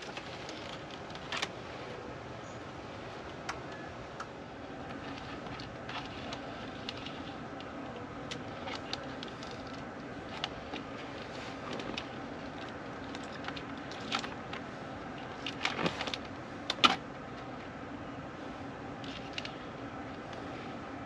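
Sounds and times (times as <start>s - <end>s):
wires clicking and rustling: 0.0s - 1.6s, 3.2s - 17.6s, 19.0s - 20.5s
low background hum: 0.0s - 21.0s.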